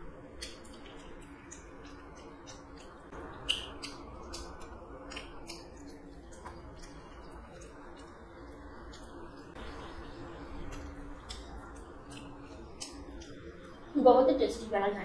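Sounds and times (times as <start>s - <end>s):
chewing and mouth smacks: 0.3s - 9.6s, 10.6s - 13.9s.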